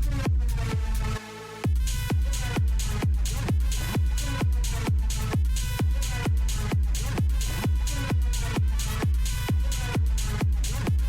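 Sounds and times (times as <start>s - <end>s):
electronic dance music: 0.0s - 11.0s
kick drum: 0.0s - 11.0s
hi-hats: 1.7s - 11.0s.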